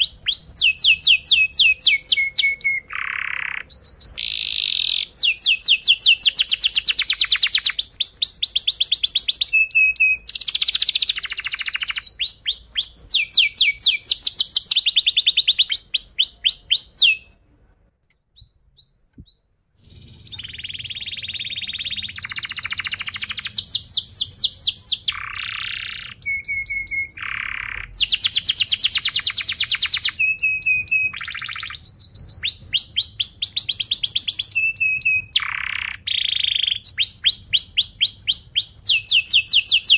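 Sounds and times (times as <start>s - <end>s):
canary singing trills: 0.0s - 17.4s, 18.1s - 39.9s.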